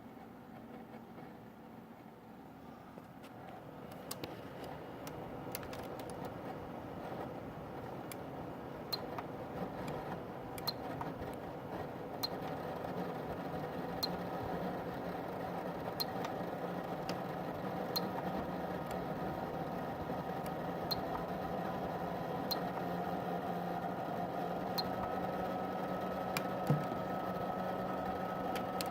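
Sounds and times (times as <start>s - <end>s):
cooling unit whirring: 0.0s - 28.9s.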